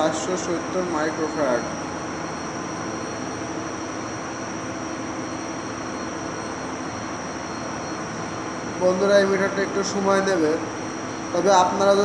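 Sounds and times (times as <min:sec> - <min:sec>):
faint high whine: 0:00.0 - 0:12.0
steady hum and hiss: 0:00.0 - 0:12.0.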